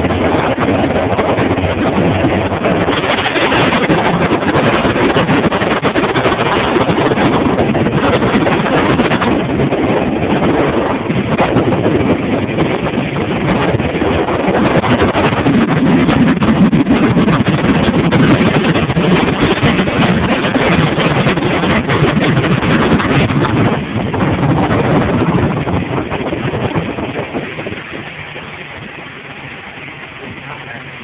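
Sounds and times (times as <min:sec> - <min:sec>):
hull rushing over water: 0:00.0 - 0:31.0
motorboat engine drone: 0:00.0 - 0:31.0
wind buffeting microphone: 0:00.0 - 0:31.0.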